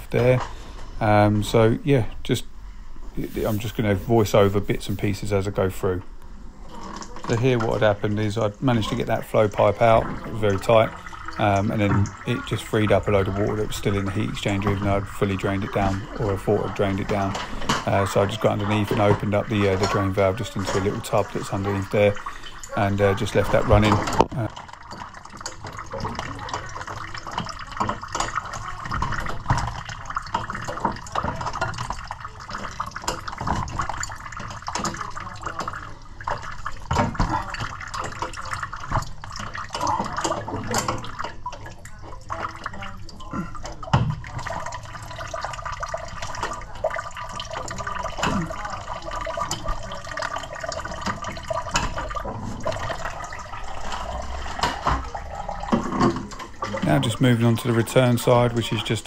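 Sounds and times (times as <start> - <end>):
water trickling and dripping: 0.0 - 59.0.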